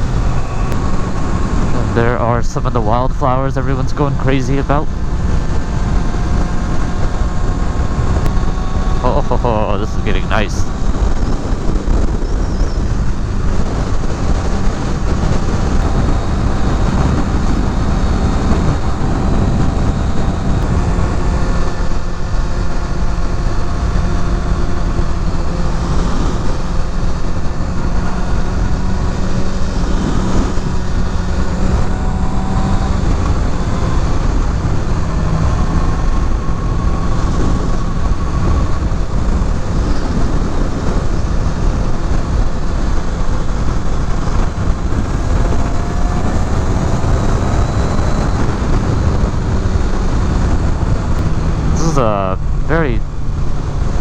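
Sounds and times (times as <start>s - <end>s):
motorcycle engine running at speed: 0.0s - 54.0s
wind rush on microphone: 0.0s - 54.0s.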